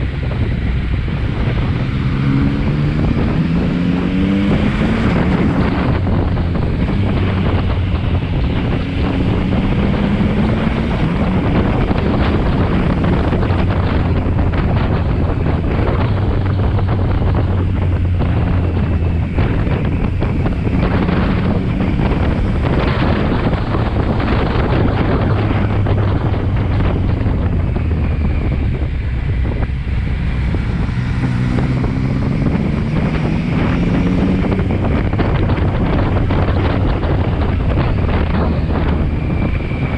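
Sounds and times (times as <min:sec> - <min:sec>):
motorcycle engine: 0:00.0 - 0:39.9
wind noise on microphone: 0:00.0 - 0:39.9.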